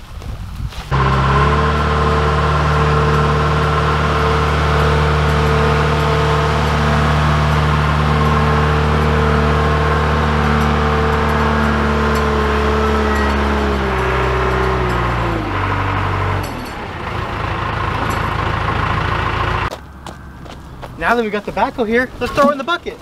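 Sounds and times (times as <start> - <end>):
steady whine: 0.9 - 20.7
diesel engine running: 0.9 - 22.6.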